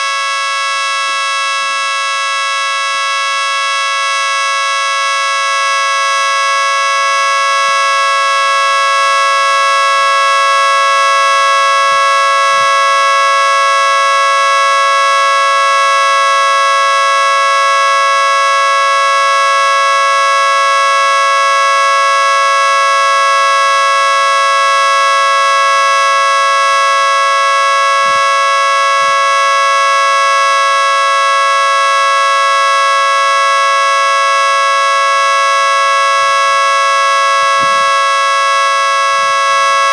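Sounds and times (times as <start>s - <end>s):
steady three-tone siren chord: 0.0s - 18.4s, 22.2s - 39.9s.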